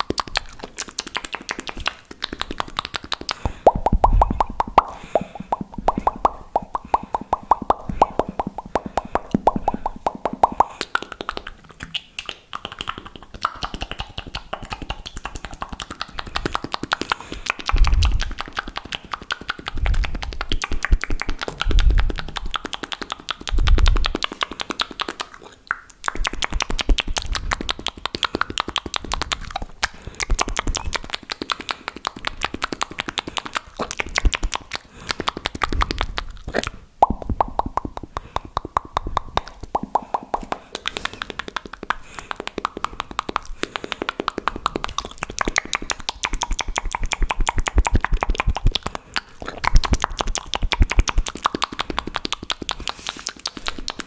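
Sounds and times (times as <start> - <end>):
wet mouth clicks and pops: 0.0 - 54.0.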